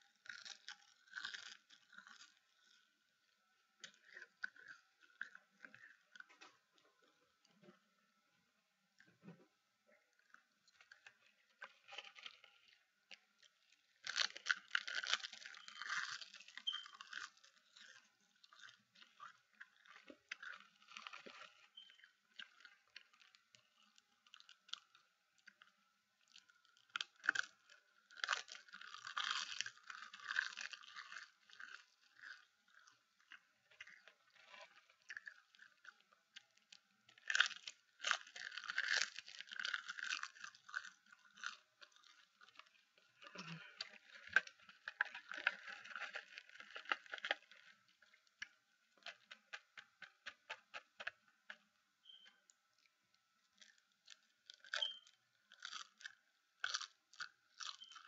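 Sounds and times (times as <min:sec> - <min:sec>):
crunching and chewing seaweed: 0:00.0 - 0:58.0.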